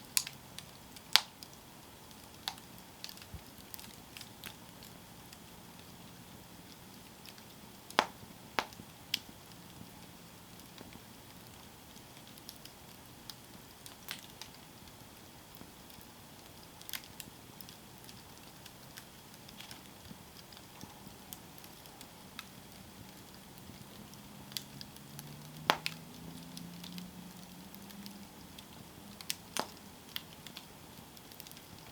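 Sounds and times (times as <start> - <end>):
campfire crackling: 0.0 - 31.9
soft fire hiss: 0.0 - 31.9.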